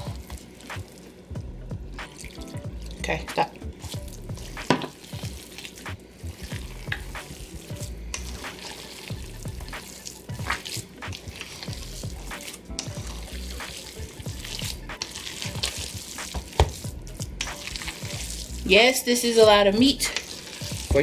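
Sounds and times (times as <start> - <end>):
hands squelching wet meat mixture: 0.0 - 21.0.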